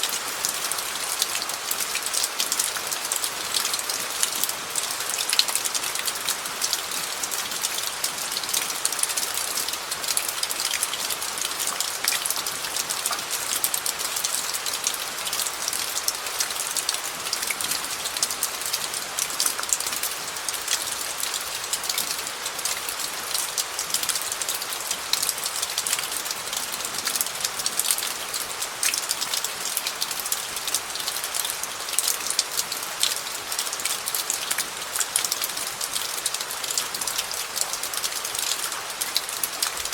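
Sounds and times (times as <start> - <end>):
rain pattering on gravel: 0.0 - 39.9.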